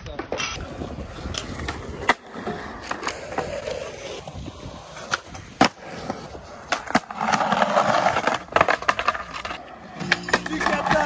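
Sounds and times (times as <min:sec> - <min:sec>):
skateboard clacking on ground: 0:00.0 - 0:11.0
skateboard wheels rolling: 0:00.0 - 0:11.0.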